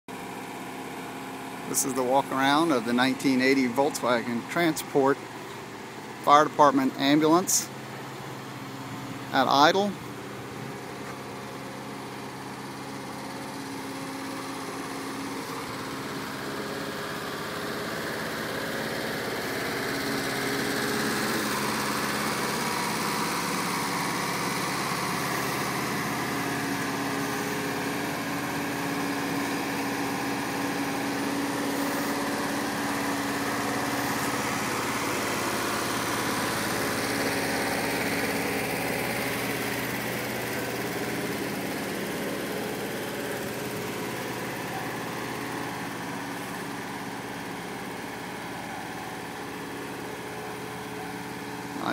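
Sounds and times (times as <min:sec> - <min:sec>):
van engine idling: 0:00.1 - 0:51.9.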